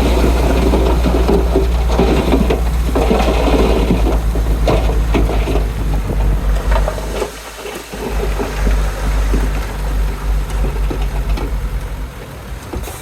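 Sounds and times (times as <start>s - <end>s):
clanking and rattling: 0.0s - 13.0s
diesel engine droning: 0.0s - 13.0s.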